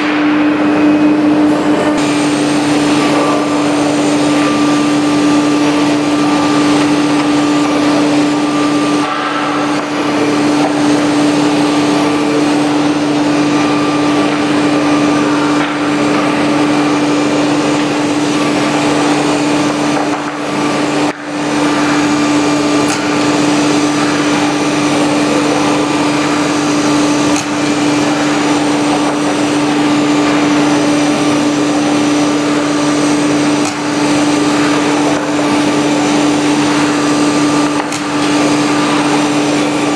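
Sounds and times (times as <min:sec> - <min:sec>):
router spindle hum: 0:00.0 - 0:39.9.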